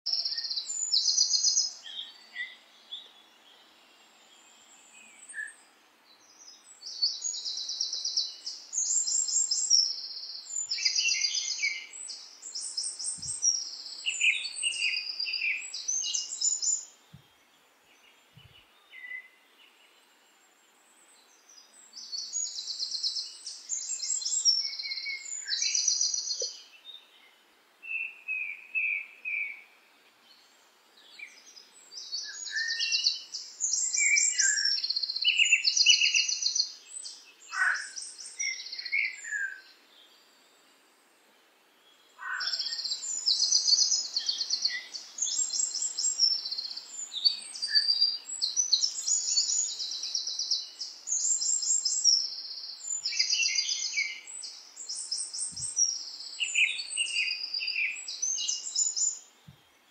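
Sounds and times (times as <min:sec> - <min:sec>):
songbirds singing: 0:00.0 - 0:59.9
faint background hiss: 0:00.1 - 0:59.9.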